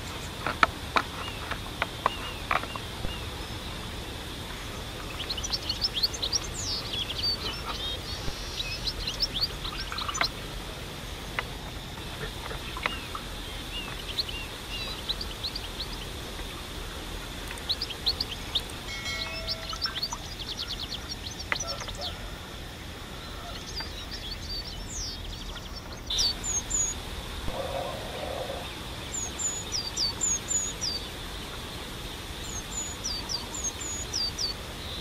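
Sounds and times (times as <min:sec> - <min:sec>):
small birds chirping: 0:00.0 - 0:35.0
steady high-pitched hum: 0:00.0 - 0:35.0.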